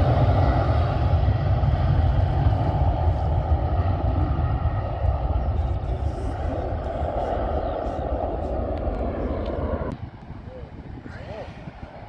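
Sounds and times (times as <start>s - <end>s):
jet airliner engines rumbling: 0.0s - 12.0s.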